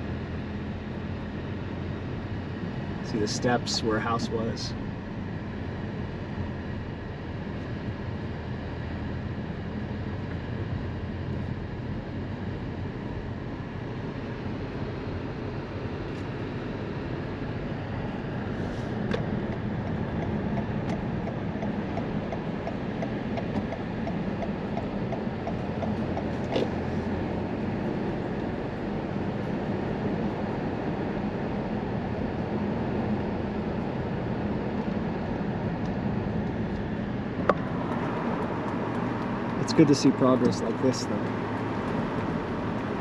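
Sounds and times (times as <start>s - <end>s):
car engine hum: 0.0s - 43.0s
road and tyre noise: 0.0s - 43.0s.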